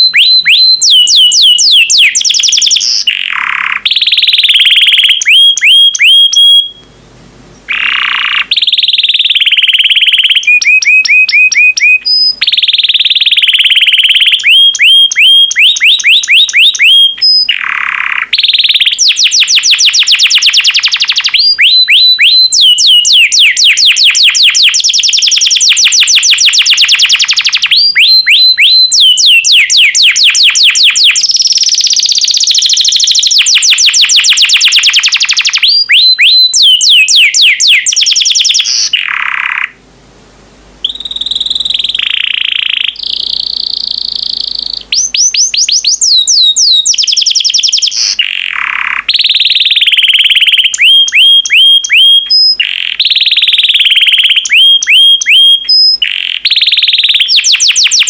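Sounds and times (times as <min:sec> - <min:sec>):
canary singing: 0:00.0 - 0:39.8, 0:40.8 - 0:58.0.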